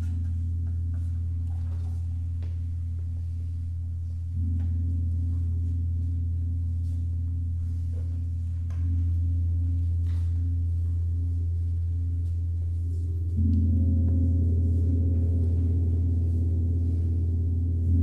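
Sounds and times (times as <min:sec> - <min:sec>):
tam-tams shimmering drone: 0:00.0 - 0:18.0.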